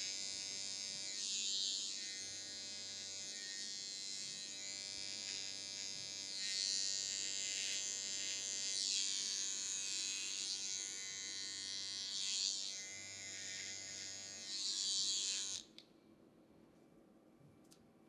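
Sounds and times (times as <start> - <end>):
electric hair clippers buzzing: 0.0 - 15.8.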